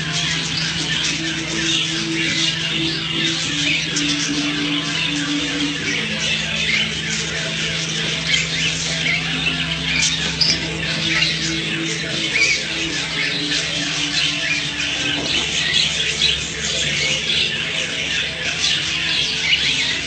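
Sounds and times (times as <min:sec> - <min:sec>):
caged birds chirping and squawking: 0:00.0 - 0:20.0.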